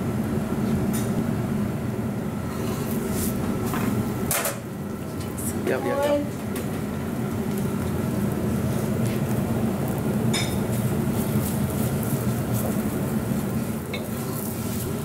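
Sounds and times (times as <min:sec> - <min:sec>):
gas burners and ventilation hum: 0:00.0 - 0:15.0.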